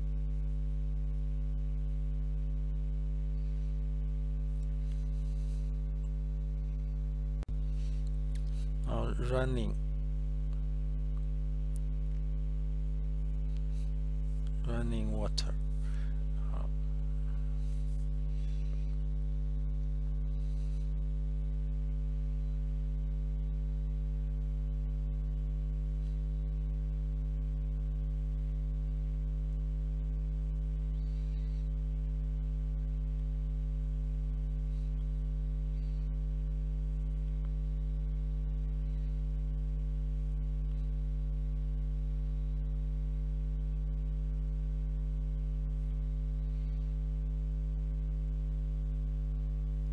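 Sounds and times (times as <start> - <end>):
electrical mains hum: 0.0 - 49.9.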